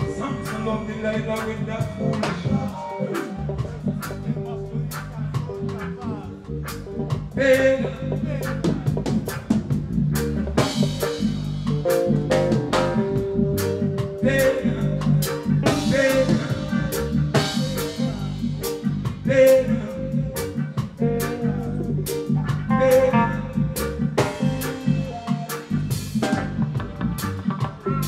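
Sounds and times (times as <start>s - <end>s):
deep bass line: 0.0s - 28.0s
drum kit beat: 0.0s - 28.0s
reggae band playing: 0.0s - 28.0s.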